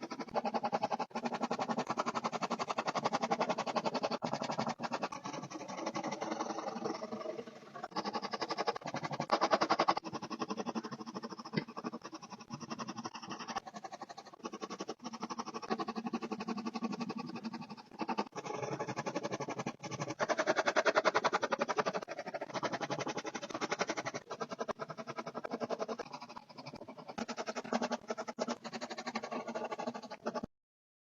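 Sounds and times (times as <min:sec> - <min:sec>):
pencil scratching on paper: 0:00.0 - 0:30.5.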